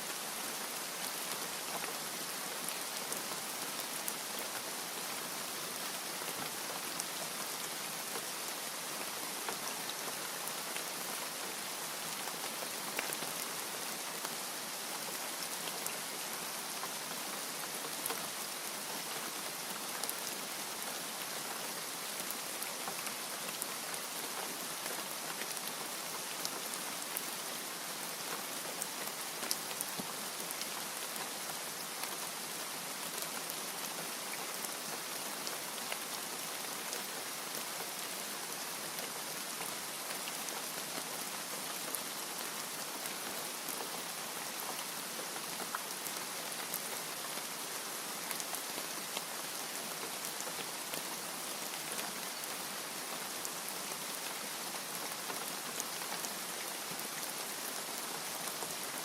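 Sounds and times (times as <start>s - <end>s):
steady rainfall hiss: 0.0s - 59.0s.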